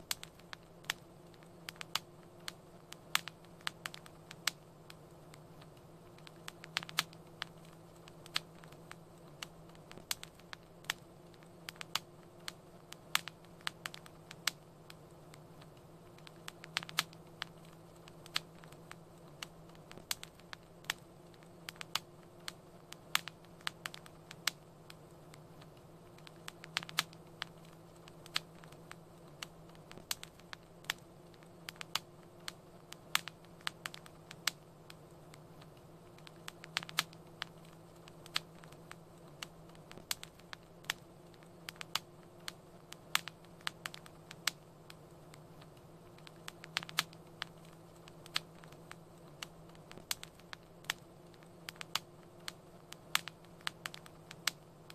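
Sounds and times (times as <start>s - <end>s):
wood fire crackling and popping: 0.0s - 54.9s.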